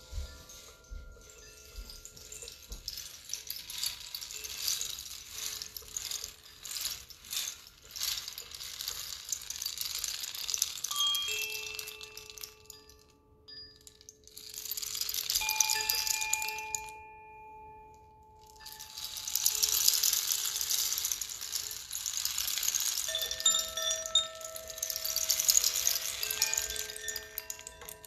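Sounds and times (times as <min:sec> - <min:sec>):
wooden wind chimes ringing: 0:00.0 - 0:28.0.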